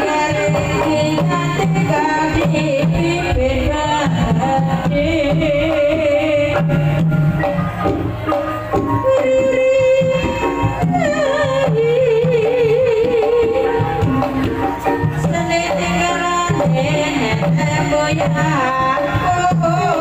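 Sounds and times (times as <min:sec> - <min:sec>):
hand drum strokes: 0:00.0 - 0:20.0
pitched percussion: 0:00.0 - 0:20.0.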